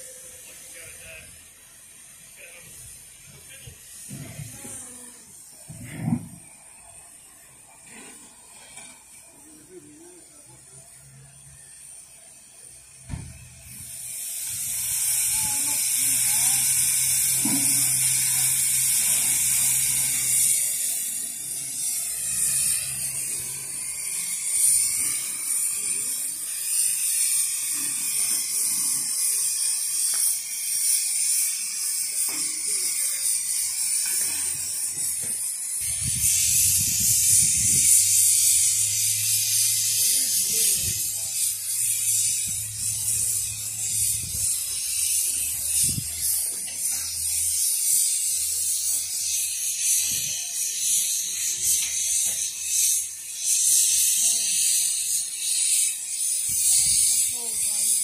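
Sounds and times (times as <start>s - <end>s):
steam locomotive hissing: 0.0s - 58.0s.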